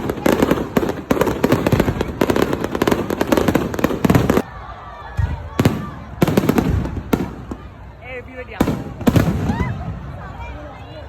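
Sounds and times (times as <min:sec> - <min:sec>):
fireworks sharp bangs: 0:00.0 - 0:04.4, 0:05.2 - 0:10.2
fireworks crackling volleys: 0:00.0 - 0:11.0.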